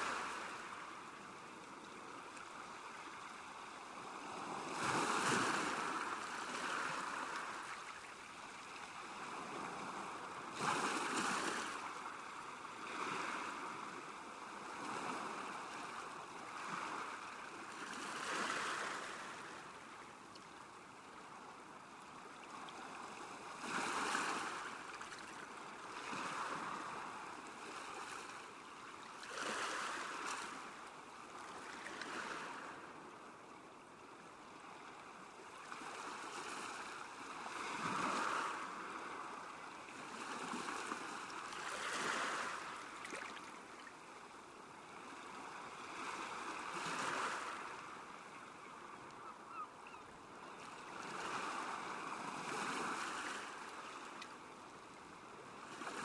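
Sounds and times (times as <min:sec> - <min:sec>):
small waves lapping on shore: 0:00.0 - 0:56.0.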